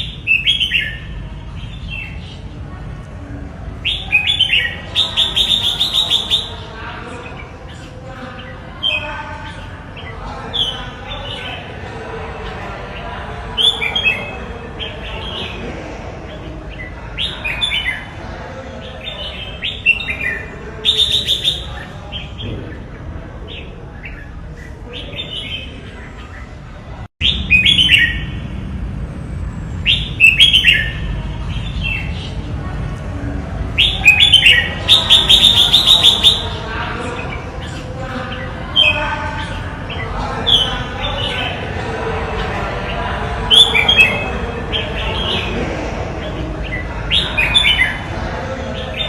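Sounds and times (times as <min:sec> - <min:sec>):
bulbul singing: 0:00.0 - 0:02.6, 0:03.6 - 0:28.4, 0:29.8 - 0:32.5, 0:33.5 - 0:41.8, 0:46.2 - 0:49.0.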